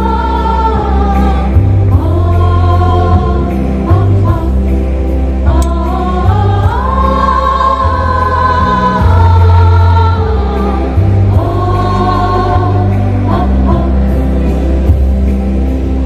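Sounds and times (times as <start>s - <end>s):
choir singing a carol: 0.0s - 16.0s
low bass notes: 0.0s - 16.0s.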